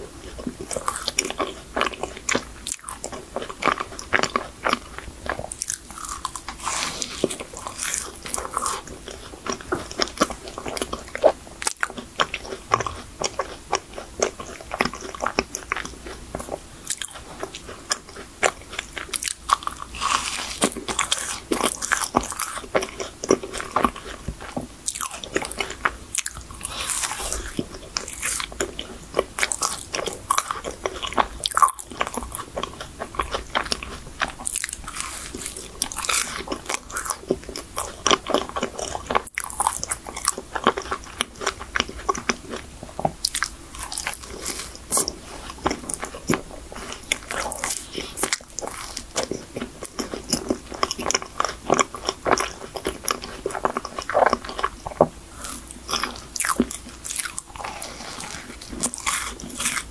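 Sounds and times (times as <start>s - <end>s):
biting and chewing pastry: 0.0s - 59.9s.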